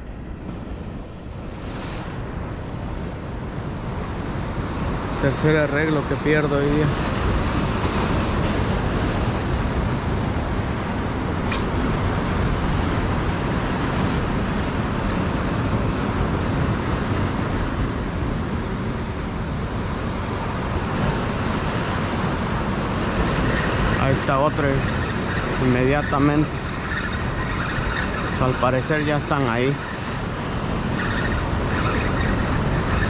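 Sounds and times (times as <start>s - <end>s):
ocean surf on rocks: 0.0s - 33.0s.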